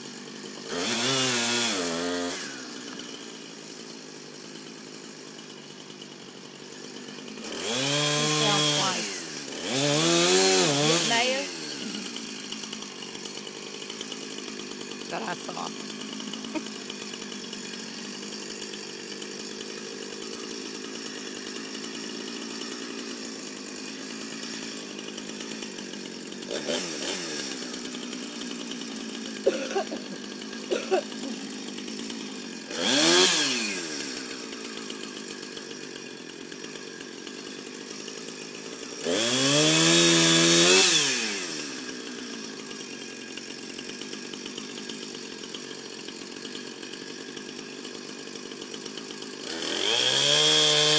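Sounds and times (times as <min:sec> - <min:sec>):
chainsaw idling: 0:00.0 - 0:50.9
chainsaw revving: 0:00.0 - 0:50.9.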